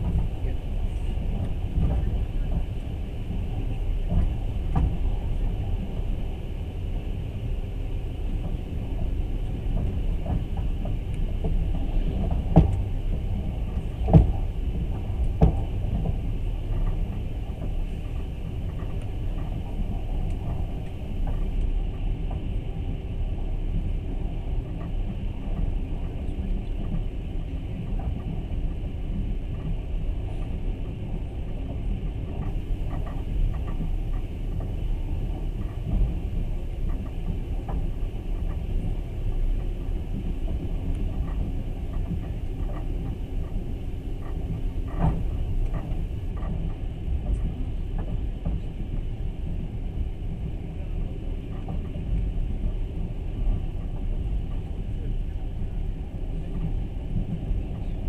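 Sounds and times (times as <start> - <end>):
train carriage rumble on track: 0.0 - 58.0.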